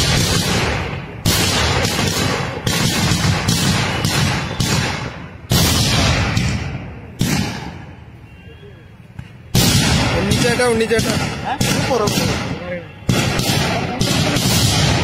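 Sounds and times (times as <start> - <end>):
firecrackers exploding: 0.0 - 8.2, 9.1 - 15.0.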